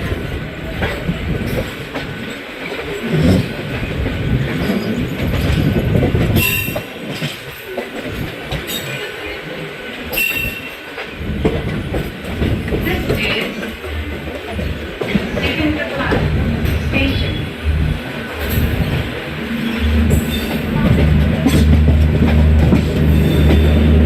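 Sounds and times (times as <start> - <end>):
train wheels rumbling and clattering: 0.0 - 24.0.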